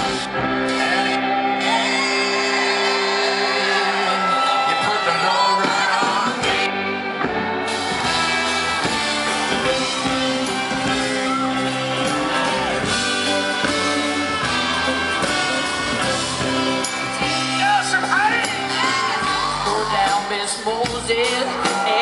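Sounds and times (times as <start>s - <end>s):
crowd whooping and shouting: 0.0s - 22.0s
live rock band playing: 0.0s - 22.0s.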